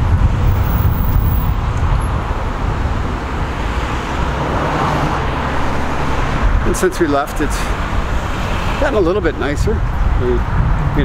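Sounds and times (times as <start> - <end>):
cars going by: 0.0 - 11.0.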